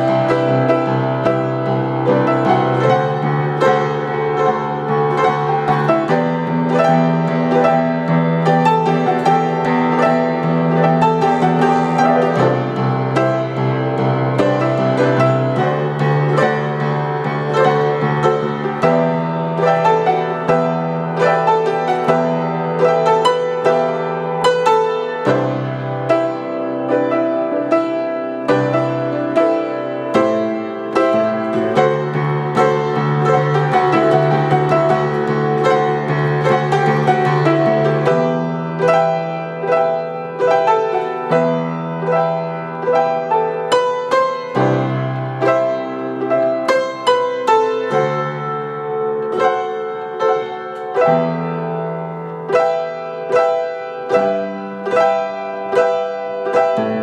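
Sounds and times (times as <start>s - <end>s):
piano playing quick notes: 0.0s - 57.0s.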